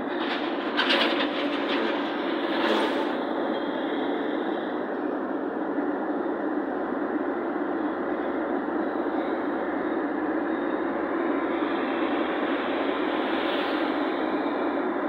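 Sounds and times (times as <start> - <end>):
vehicle road and engine noise: 0.0 - 15.0.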